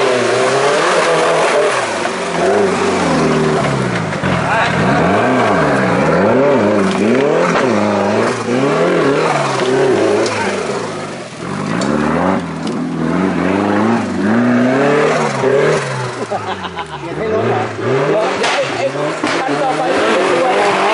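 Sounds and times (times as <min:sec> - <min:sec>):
buggy engine revving: 0:00.0 - 0:20.9.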